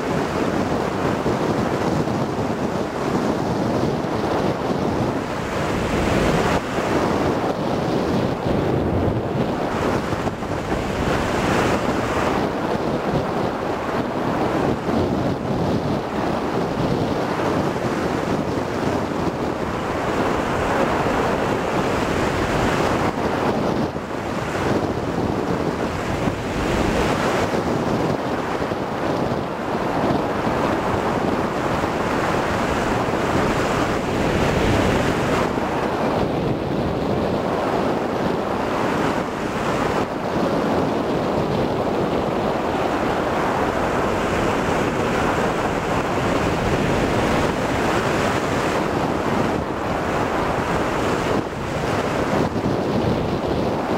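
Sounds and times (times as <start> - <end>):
wind rushing over microphone: 0.0 - 53.9.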